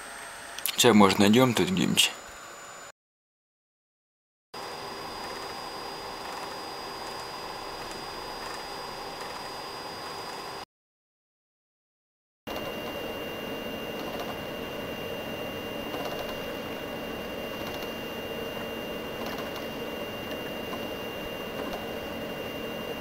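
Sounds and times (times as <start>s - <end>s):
high-pitched electronic whine: 0.0s - 2.9s, 4.6s - 10.6s, 12.5s - 23.0s.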